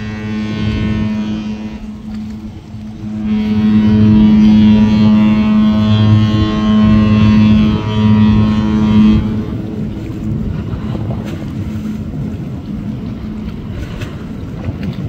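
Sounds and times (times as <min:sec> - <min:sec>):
ship horn blast: 0:00.0 - 0:14.6
low rumble: 0:00.0 - 0:15.0
wind buffeting microphone: 0:00.0 - 0:15.0.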